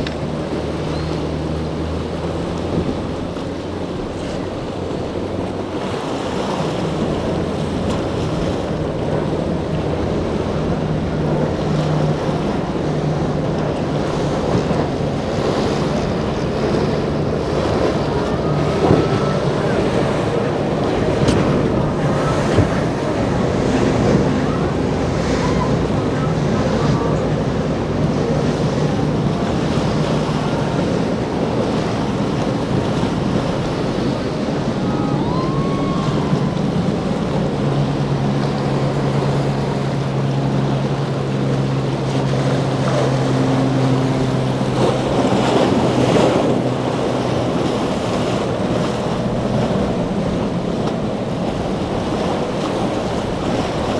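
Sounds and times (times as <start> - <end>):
boat diesel engines droning: 0.0 - 53.9
rushing wake and breaking waves: 0.0 - 53.9
wind buffeting microphone: 0.0 - 53.9.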